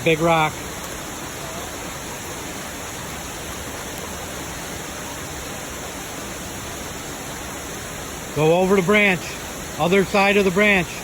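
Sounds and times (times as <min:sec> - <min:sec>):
waterfall and creek rushing: 0:00.0 - 0:11.0.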